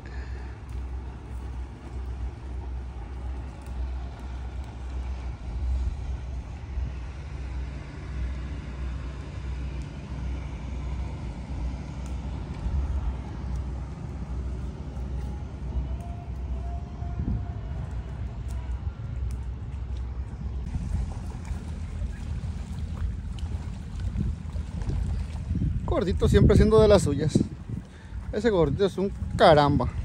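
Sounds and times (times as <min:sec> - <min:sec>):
low engine tone: 0:00.0 - 0:30.0
towboat diesel drone: 0:00.0 - 0:30.0.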